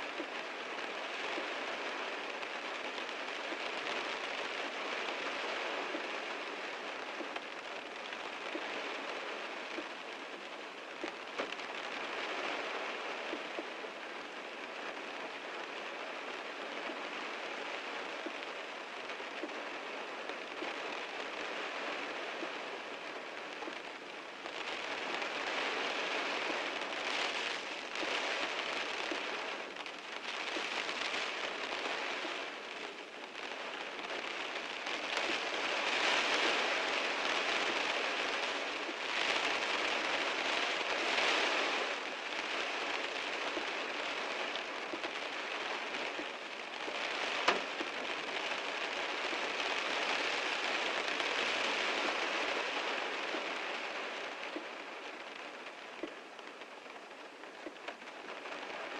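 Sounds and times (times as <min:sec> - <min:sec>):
heavy rain on a car: 0:00.0 - 0:58.9.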